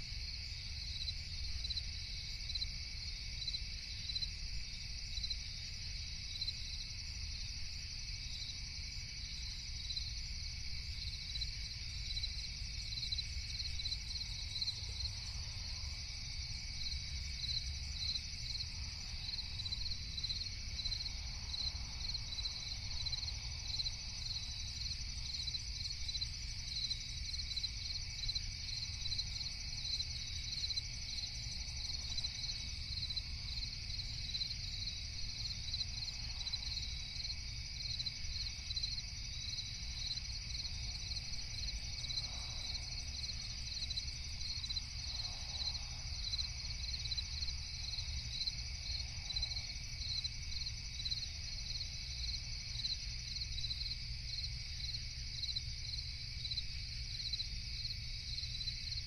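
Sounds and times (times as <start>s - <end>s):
crickets chirping: 0.0s - 59.0s
insect drone: 0.0s - 59.0s.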